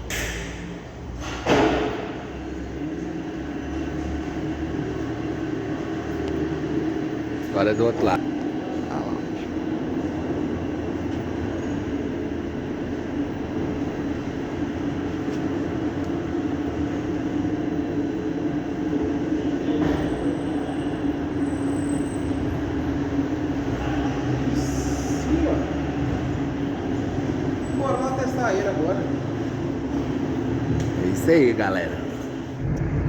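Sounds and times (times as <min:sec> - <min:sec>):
mechanical rumble with low hum: 0:00.0 - 0:33.0.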